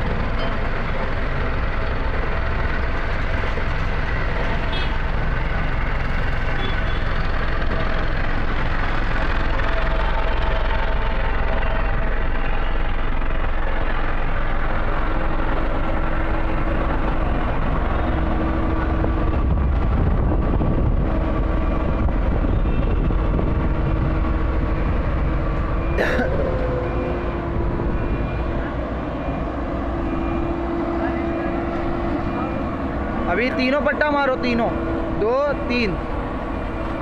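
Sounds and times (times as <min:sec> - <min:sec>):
road roller engine running: 0:00.0 - 0:37.0.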